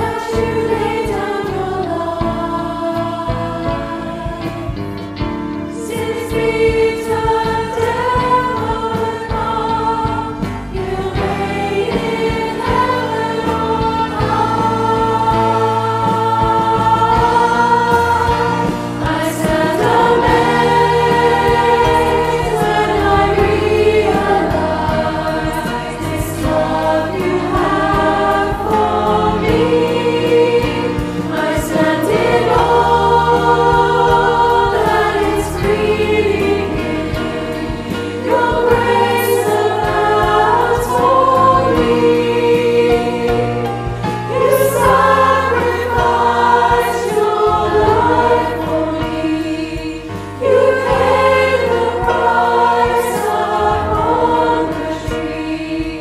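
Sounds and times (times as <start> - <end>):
choir singing worship song: 0.0 - 56.0.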